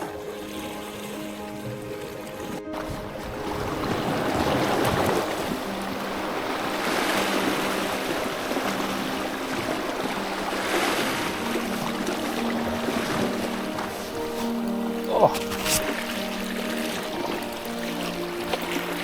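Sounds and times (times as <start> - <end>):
sea waves washing over rocks: 0.0 - 19.0
soft background music: 0.0 - 19.0.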